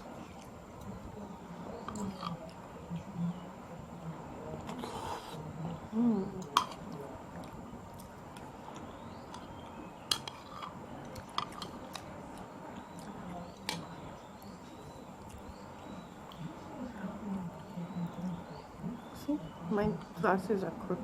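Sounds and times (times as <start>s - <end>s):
soft chewing: 0.0s - 20.2s.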